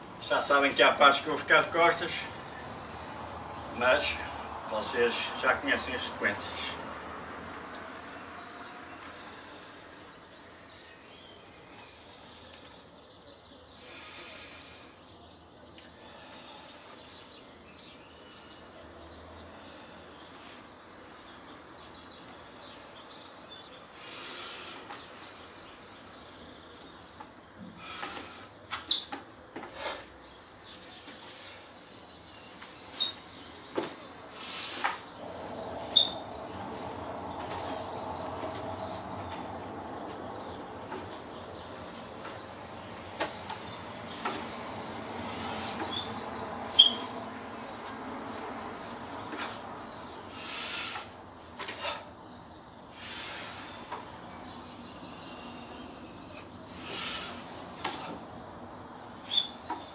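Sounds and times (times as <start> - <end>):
faint bird chirps: 7.7 - 59.9.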